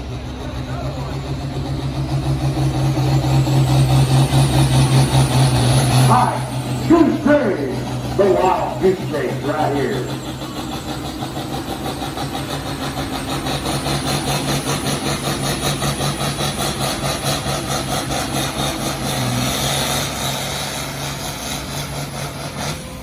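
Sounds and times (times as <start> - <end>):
tractor engine running hard: 0.0 - 23.0.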